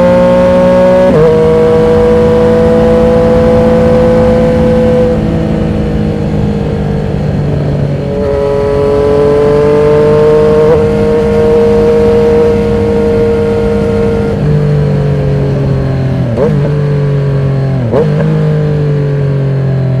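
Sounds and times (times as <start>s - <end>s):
loud motorcycle engine running: 0.0s - 20.0s.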